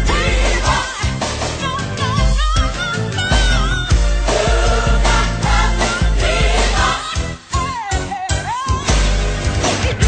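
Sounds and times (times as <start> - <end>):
pop music with heavy beat: 0.0 - 10.0.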